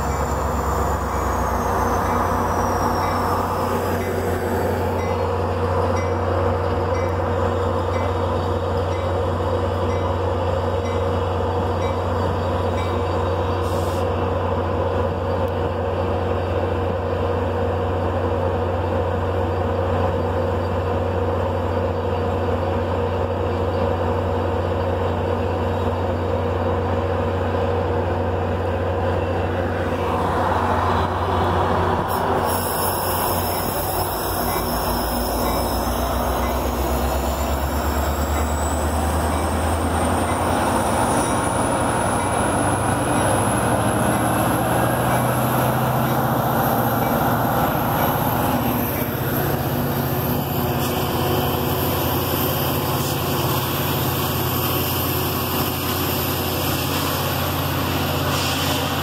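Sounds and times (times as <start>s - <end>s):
train engine and wheels rumbling: 0.0s - 59.0s.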